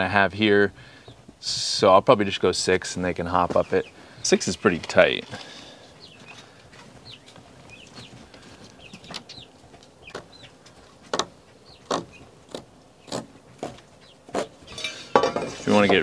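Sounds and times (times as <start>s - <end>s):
chicks peeping: 0.8s - 14.7s.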